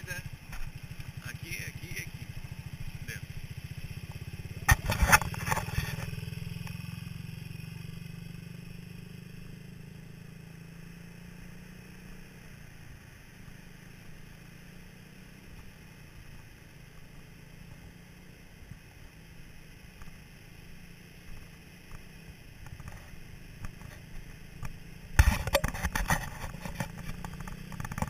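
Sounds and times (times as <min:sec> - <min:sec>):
buggy engine droning: 0:00.0 - 0:28.0.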